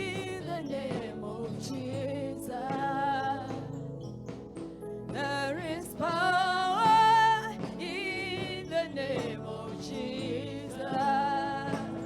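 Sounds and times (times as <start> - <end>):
instrumental backing: 0.0 - 12.0
person singing gospel song: 0.0 - 12.0.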